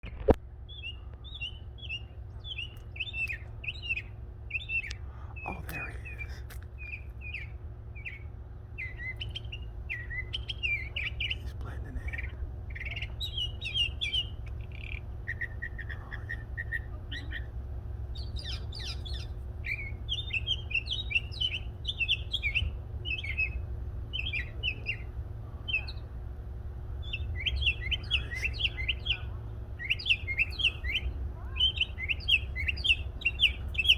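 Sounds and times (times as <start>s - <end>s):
songbirds chirping: 0.0s - 33.9s
steady low rumble: 0.0s - 33.9s.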